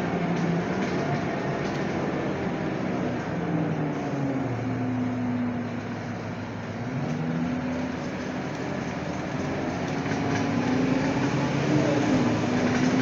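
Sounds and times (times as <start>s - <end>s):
diesel bus engine running: 0.0s - 13.0s
road noise: 0.0s - 13.0s.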